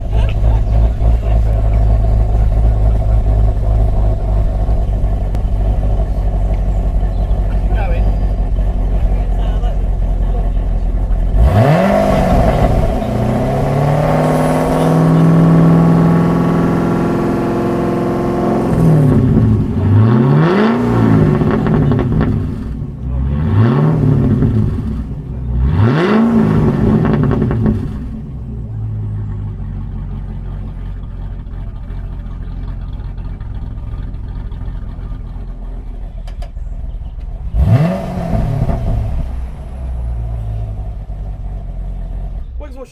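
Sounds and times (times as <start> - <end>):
car engine revving and idling: 0.0 - 42.9.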